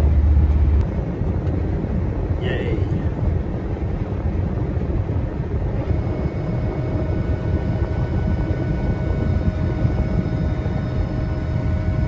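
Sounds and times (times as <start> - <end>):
combine harvester rumble: 0.0 - 12.0.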